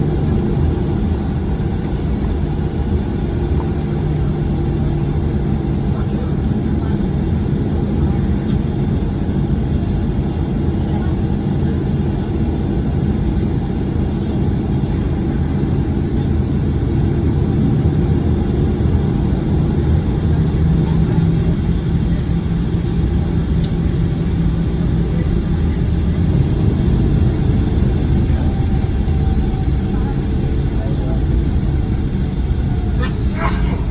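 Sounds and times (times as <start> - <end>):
aircraft cabin rumble: 0.0 - 33.9
faint steady engine tones: 0.0 - 33.9.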